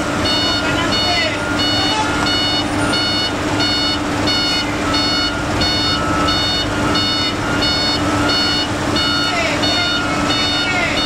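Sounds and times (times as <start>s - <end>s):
diesel engine humming: 0.0s - 11.0s
truck reversing alarm beeping: 0.0s - 11.0s.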